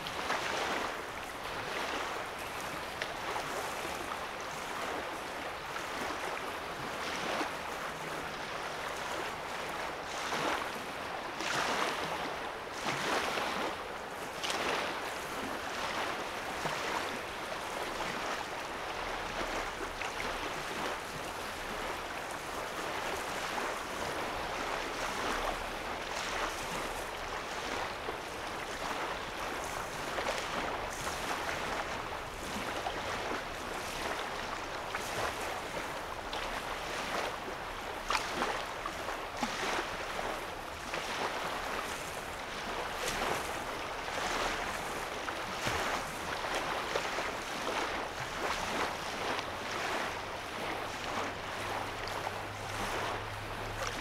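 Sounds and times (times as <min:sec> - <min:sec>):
small waves lapping on shore: 0:00.0 - 0:54.0.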